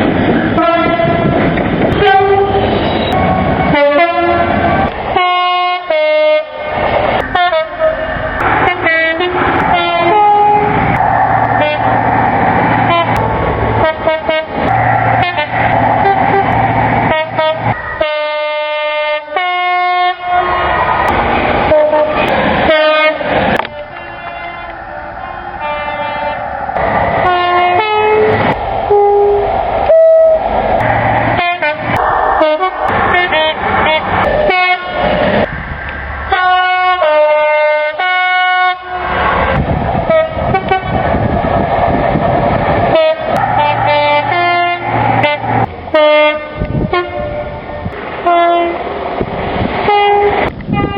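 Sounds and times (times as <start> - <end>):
train running noise: 0.0 - 50.9
two-tone train air horns: 0.6 - 12.0, 12.9 - 13.2, 13.8 - 20.7, 21.7 - 35.4, 36.3 - 39.4, 40.1 - 41.0, 42.9 - 48.8, 49.8 - 50.9.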